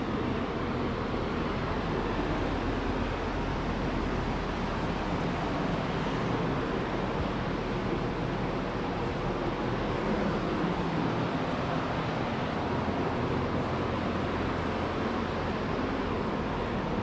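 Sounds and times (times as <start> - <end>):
ventilation fans rushing: 0.0 - 17.0.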